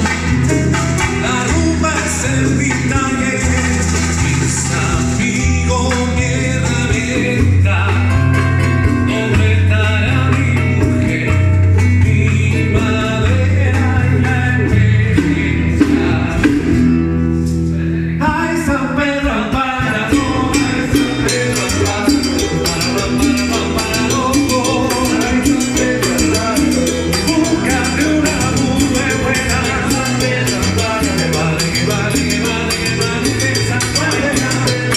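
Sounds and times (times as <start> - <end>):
person singing: 0.0 - 16.9, 17.6 - 34.9
latin band music: 0.0 - 34.9.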